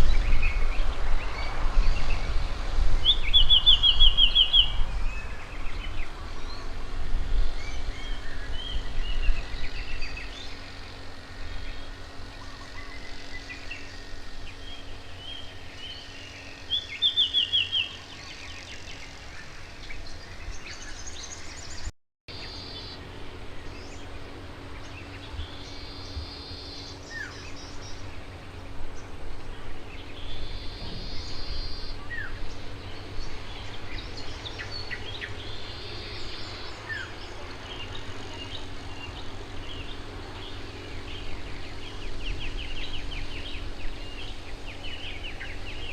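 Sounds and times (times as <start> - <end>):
steady low rumble: 0.0 - 17.1, 17.7 - 45.9
wild birds chirping and calling: 7.5 - 45.9.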